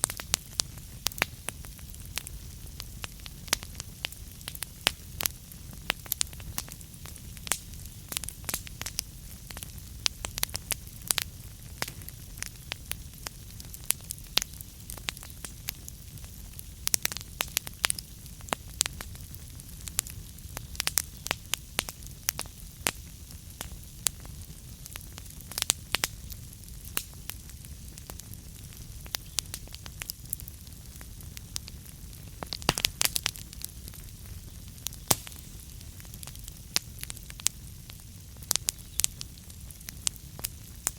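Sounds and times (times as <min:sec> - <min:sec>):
burning wood crackling: 0:00.0 - 0:40.9
low fire rumble: 0:00.0 - 0:40.9.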